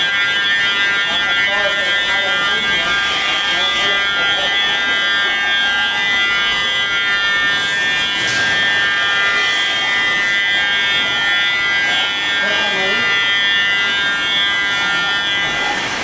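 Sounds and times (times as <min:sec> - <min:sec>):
high-pitched machine whine: 0:00.0 - 0:16.0.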